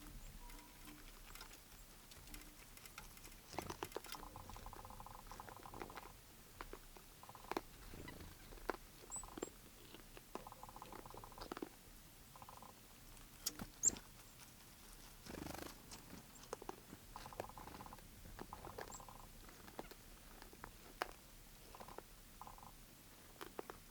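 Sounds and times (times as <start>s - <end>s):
animal feeding clicks and crunches: 0.4s - 7.7s, 8.4s - 11.8s, 13.4s - 22.6s, 23.2s - 23.8s.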